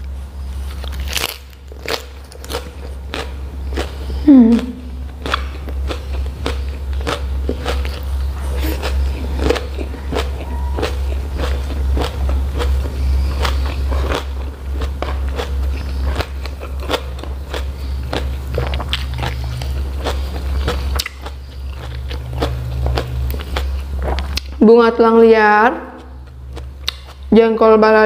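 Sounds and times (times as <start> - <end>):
steady low hum: 0.0 - 28.0
chewing food: 0.7 - 24.6, 25.8 - 27.3.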